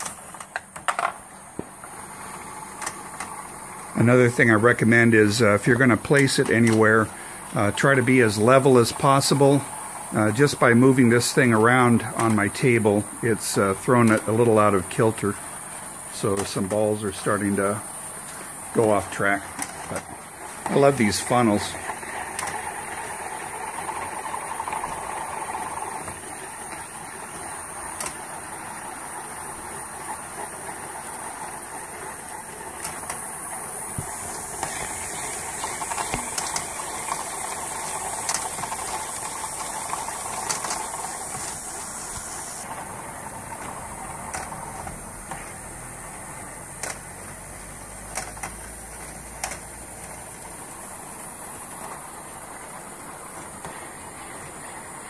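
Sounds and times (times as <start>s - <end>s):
balls rolling on plastic tracks: 0.0s - 55.0s
balls clicking on track: 2.6s - 15.4s, 16.0s - 45.9s, 46.7s - 47.2s, 48.0s - 54.6s.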